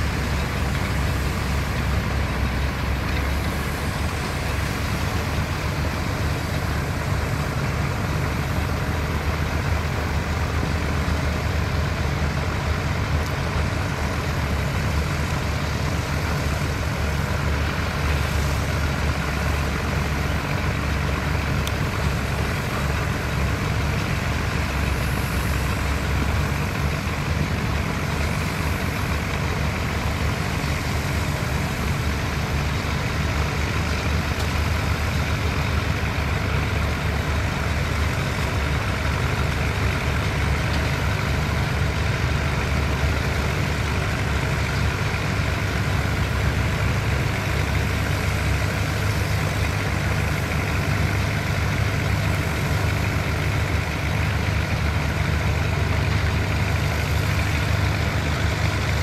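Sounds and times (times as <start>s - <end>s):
heavy machinery diesel drone: 0.0s - 59.0s.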